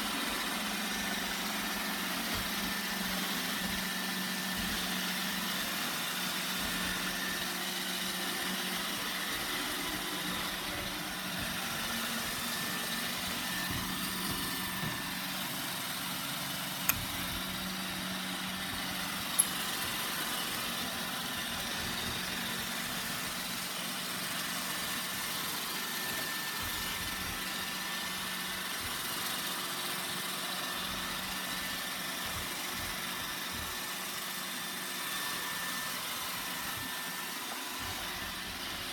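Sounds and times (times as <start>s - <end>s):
robot vacuum motor hum: 0.0s - 38.9s.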